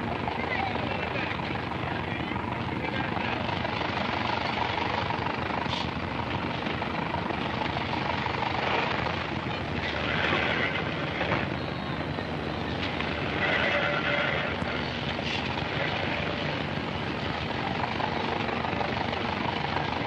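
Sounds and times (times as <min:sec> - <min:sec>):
motor traffic rumble: 0:00.0 - 0:20.0.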